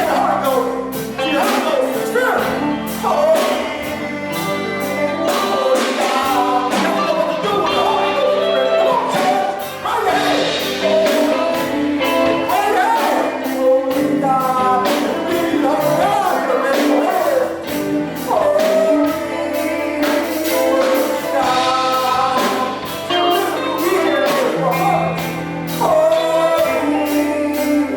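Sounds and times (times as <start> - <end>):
steady beat: 0.0 - 26.8
gospel music singing: 0.0 - 27.9.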